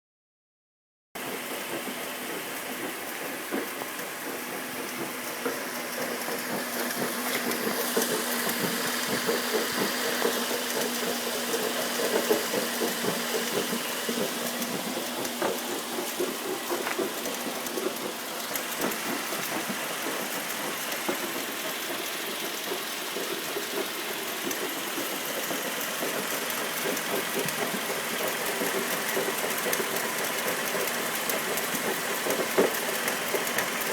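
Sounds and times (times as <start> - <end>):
car engine drone: 1.2 - 33.9.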